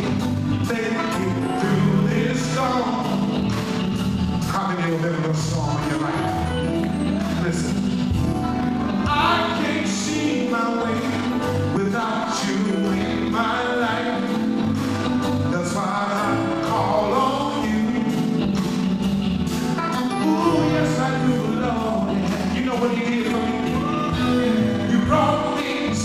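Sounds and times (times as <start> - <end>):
person singing: 0.0 - 3.4, 4.4 - 18.8, 19.8 - 26.0
drums: 0.0 - 26.0
gospel band playing: 0.0 - 26.0.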